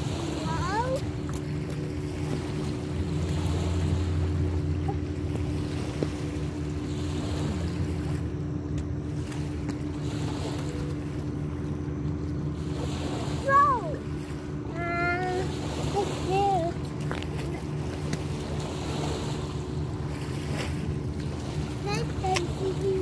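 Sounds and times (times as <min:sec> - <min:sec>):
motorboat engine drone: 0:00.0 - 0:23.0.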